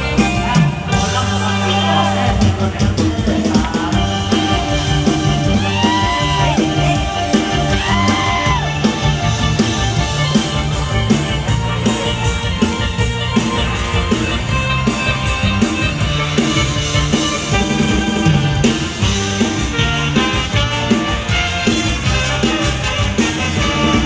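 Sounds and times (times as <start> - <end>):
live band music: 0.0 - 24.0
repeating bass line: 0.0 - 24.0
steady drum beat: 0.0 - 24.0.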